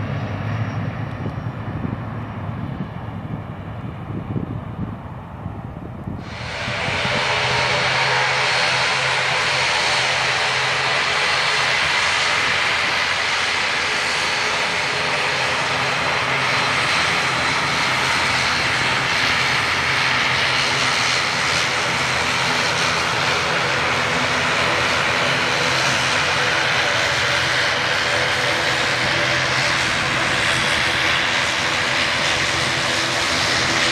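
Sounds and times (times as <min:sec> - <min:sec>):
airliner engines running: 0:00.0 - 0:33.9.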